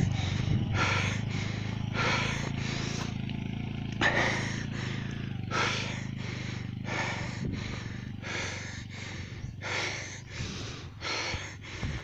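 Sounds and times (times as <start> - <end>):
heavy breathing: 0.0 - 3.3, 4.0 - 12.0
motorcycle engine drone: 0.0 - 12.0.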